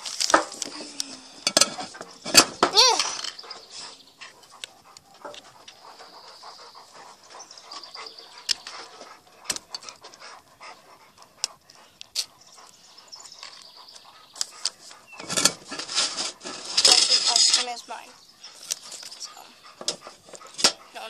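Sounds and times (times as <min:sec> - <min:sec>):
rustle: 0:00.0 - 0:21.0
dog panting: 0:00.6 - 0:02.7, 0:03.3 - 0:21.0.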